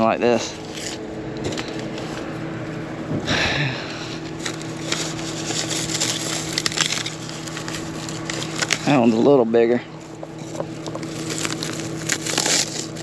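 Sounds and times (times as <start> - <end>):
corn husks tearing and crackling: 0.0 - 2.3, 4.0 - 13.0
steady low hum: 0.0 - 13.0.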